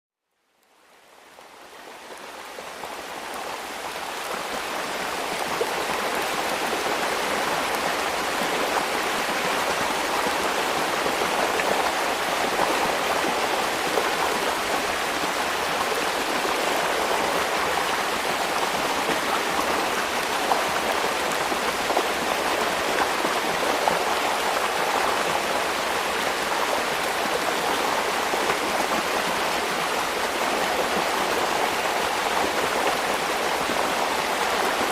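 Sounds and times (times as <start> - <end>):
heavy rain falling: 0.6 - 34.9.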